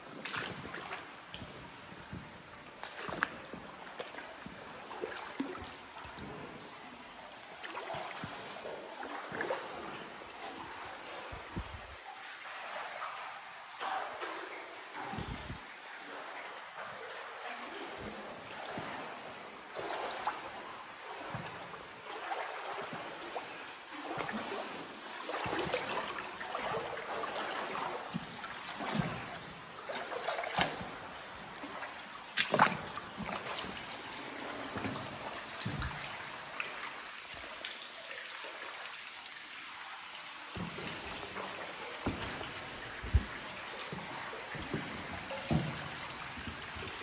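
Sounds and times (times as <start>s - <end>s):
wading through shallow water: 0.0s - 47.0s.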